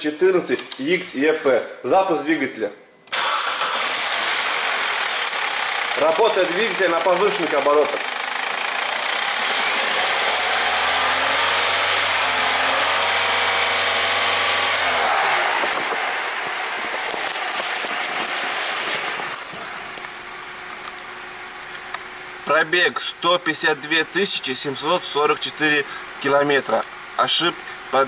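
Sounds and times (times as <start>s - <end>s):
car engine running at raised revs: 3.2s - 28.0s.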